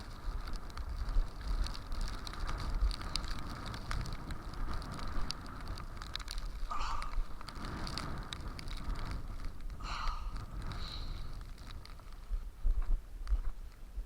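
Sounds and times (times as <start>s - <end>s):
snow ticking against microphone: 0.0s - 14.0s
wind buffeting microphone: 0.0s - 14.0s.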